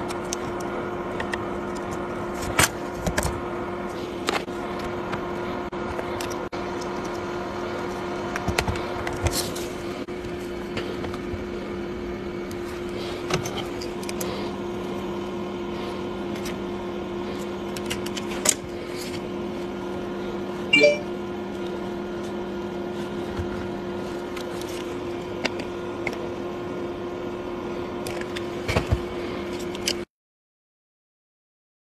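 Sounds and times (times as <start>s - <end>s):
steady low hum: 0.0s - 30.1s.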